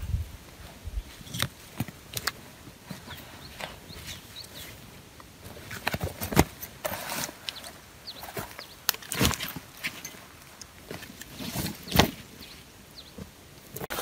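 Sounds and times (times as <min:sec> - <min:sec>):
camping gear rustling: 0:00.0 - 0:14.0.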